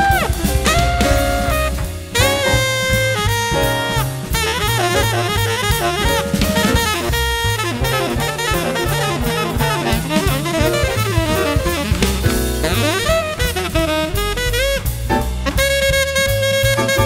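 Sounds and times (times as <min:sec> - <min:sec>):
jazz music: 0:00.0 - 0:17.0
saxophone: 0:00.0 - 0:17.0.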